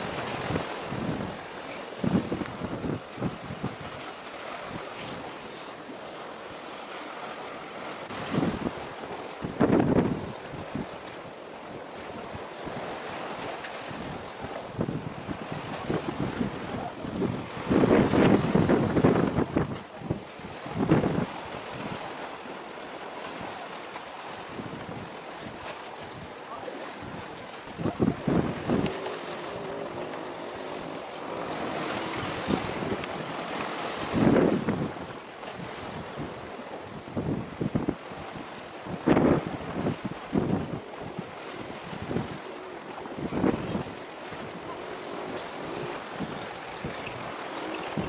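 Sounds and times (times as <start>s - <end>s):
sea: 0.0s - 48.0s
wind buffeting microphone: 0.0s - 48.0s.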